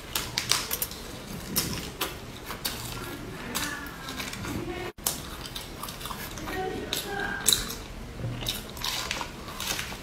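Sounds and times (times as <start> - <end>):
crunchy snaps: 0.0 - 10.0
lettuce leaves crackling: 0.0 - 10.0.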